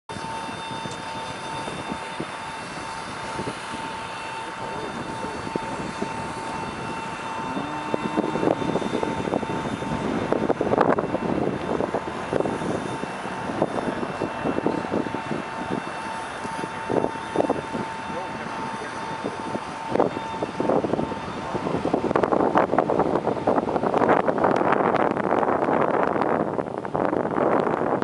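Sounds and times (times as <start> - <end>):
jet turbine whine: 0.1 - 28.0.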